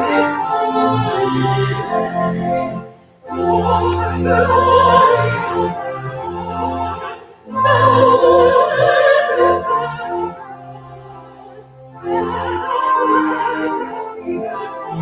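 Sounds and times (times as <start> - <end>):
organ chords: 0.0 - 15.0
person singing a hymn: 0.0 - 15.0.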